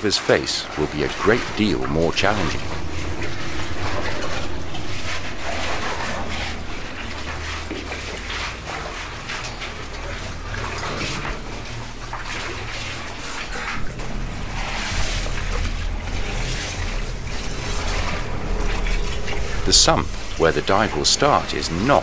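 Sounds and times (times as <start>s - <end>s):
water splashing and sloshing: 0.0s - 22.0s
low hum: 0.2s - 22.0s.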